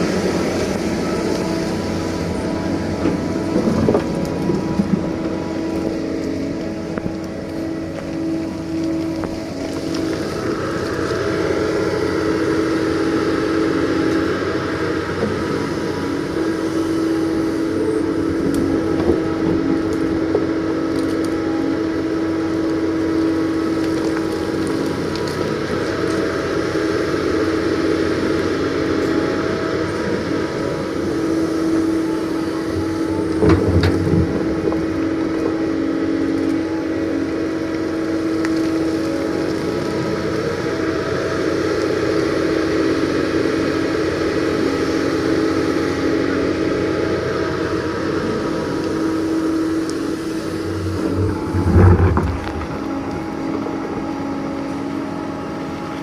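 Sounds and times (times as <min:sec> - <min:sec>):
excavator engine humming: 0:00.0 - 0:56.0.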